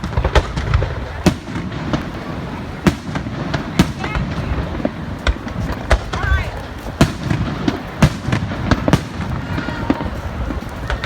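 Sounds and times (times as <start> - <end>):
distant fireworks rumble: 0.0 - 11.0
sharp firework bangs: 0.0 - 11.0.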